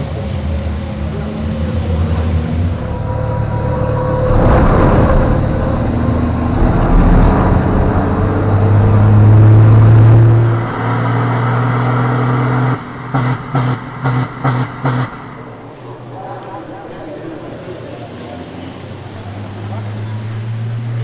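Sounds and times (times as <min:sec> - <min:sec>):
diesel engine droning under load: 0:00.0 - 0:21.0.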